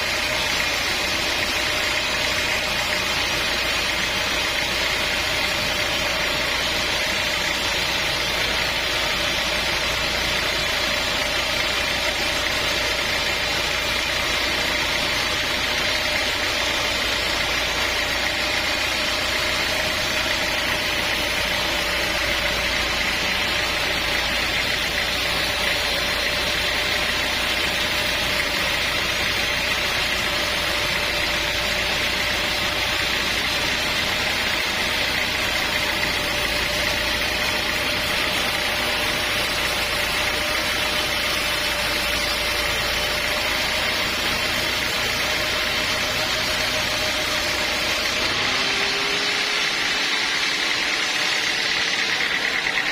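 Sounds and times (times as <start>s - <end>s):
sawmill engine humming: 0.0s - 52.9s.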